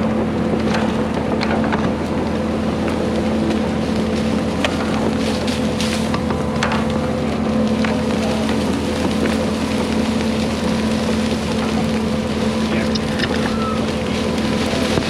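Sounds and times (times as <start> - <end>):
heavy machine engine under load: 0.0 - 15.0.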